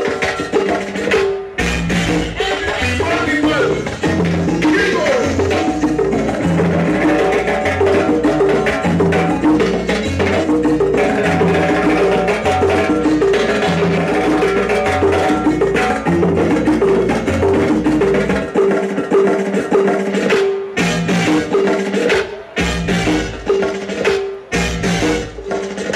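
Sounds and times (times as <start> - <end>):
latin dance music: 0.0 - 25.9.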